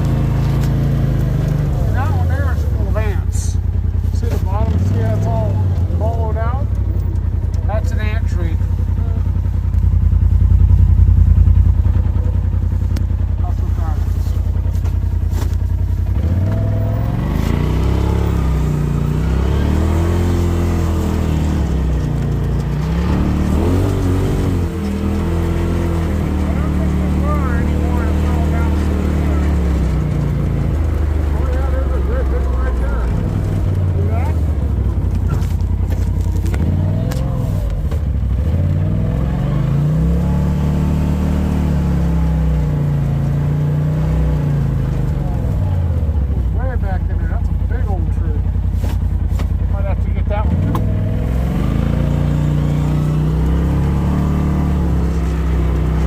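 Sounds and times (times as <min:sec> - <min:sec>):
utility vehicle engine revving: 0:00.0 - 0:56.0.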